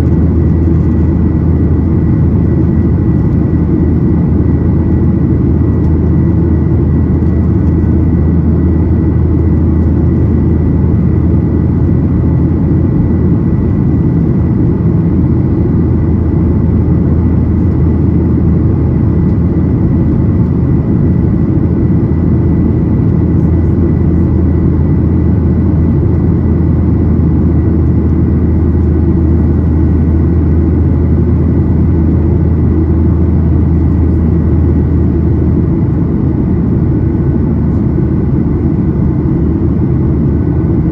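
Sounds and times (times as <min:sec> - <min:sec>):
aircraft cabin engine rumble: 0:00.0 - 0:40.9.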